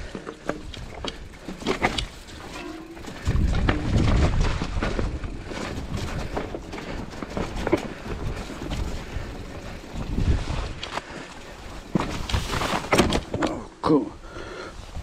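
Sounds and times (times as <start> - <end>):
wind rumbling on microphone: 0.0 - 13.3
bike rattling over rocky trail: 0.0 - 13.8.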